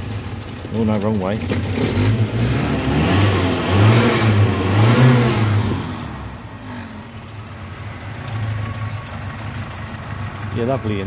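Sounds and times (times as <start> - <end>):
car engine idling: 0.0 - 11.0
car engine revving: 0.0 - 11.0.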